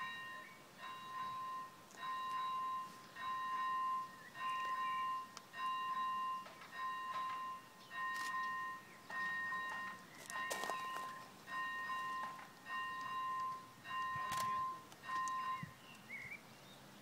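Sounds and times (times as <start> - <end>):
railway warning bell ringing: 0.0 - 15.9.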